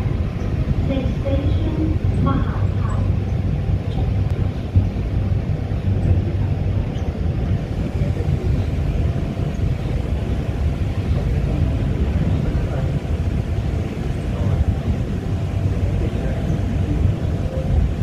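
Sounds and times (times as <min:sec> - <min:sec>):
faint steady hum: 0:00.0 - 0:18.0
train running low rumble: 0:00.0 - 0:18.0.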